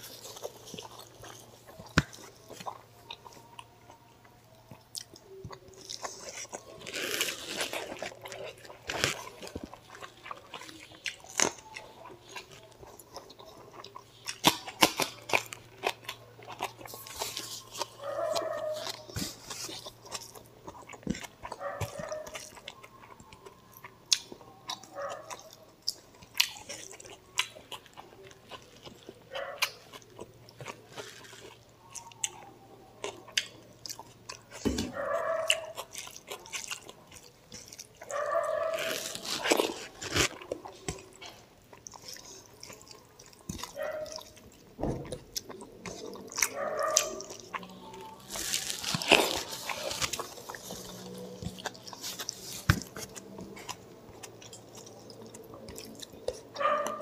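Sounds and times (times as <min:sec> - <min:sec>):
chewing and lip smacks: 0:00.0 - 0:57.0.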